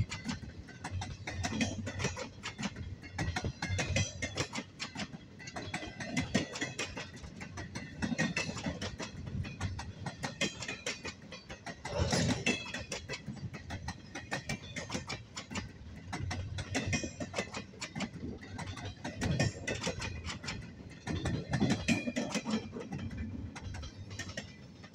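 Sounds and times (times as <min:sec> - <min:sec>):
empty freight cars clanking: 0:00.0 - 0:24.9
train wheels rumbling on rails: 0:00.0 - 0:24.9.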